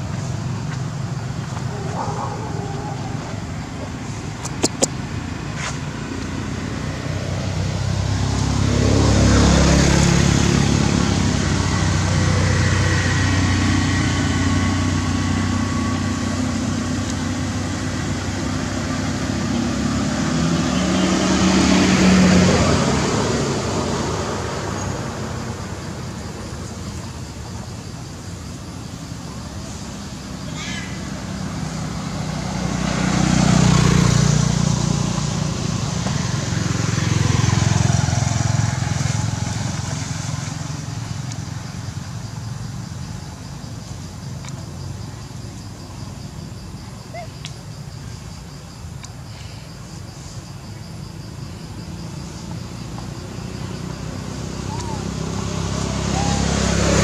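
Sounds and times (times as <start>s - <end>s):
vehicle engines passing: 0.0s - 57.0s.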